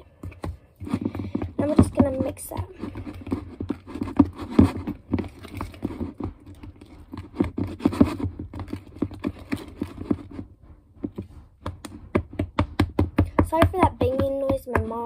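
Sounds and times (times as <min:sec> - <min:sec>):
slime squishing in plastic bowl: 0:00.0 - 0:15.0.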